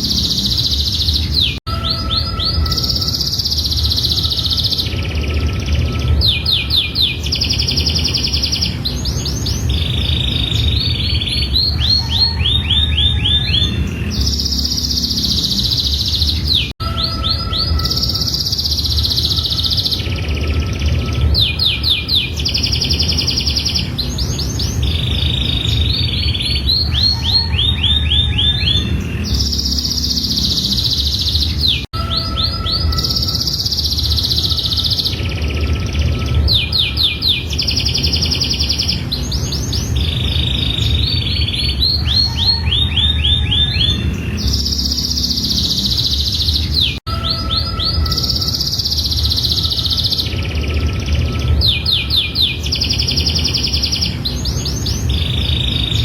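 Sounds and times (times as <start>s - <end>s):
canary singing trills: 0.0s - 56.0s
low hum: 0.0s - 56.0s.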